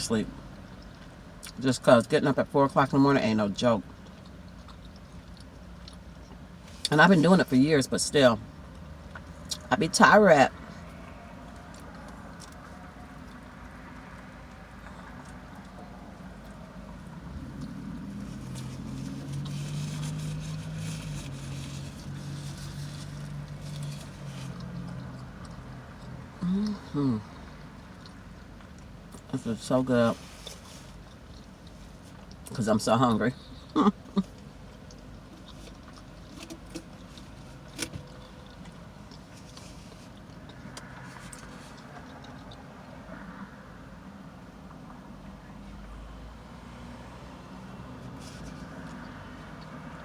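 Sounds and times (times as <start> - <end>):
vehicle engine humming: 0.0 - 50.0.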